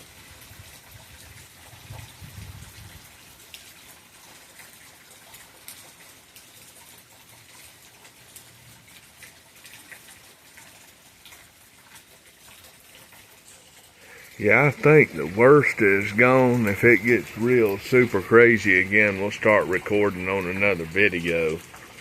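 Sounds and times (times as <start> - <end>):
raindrops ticking close by: 0.0 - 22.0
steady rain hiss: 0.0 - 22.0.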